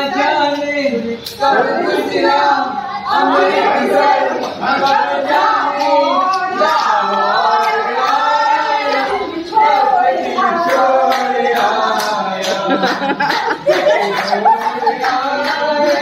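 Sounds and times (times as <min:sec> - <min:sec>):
group singing: 0:00.0 - 0:16.0.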